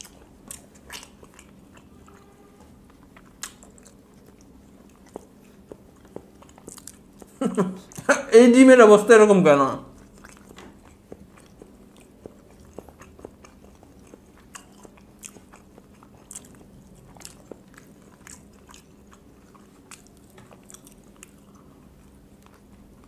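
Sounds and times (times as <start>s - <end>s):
chewing and mouth clicks: 0.0s - 8.1s, 9.9s - 23.0s
low steady hum: 0.0s - 23.0s.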